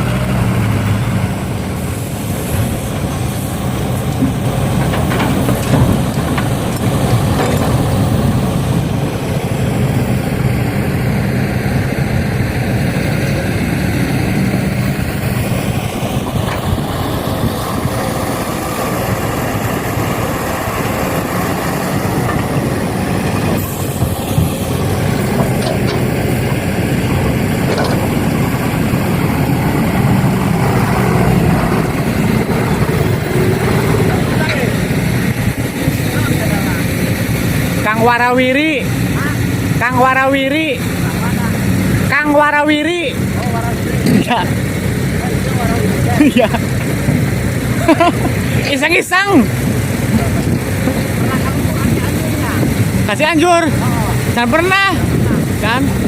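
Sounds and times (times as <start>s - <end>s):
diesel engine humming: 0.0s - 56.0s.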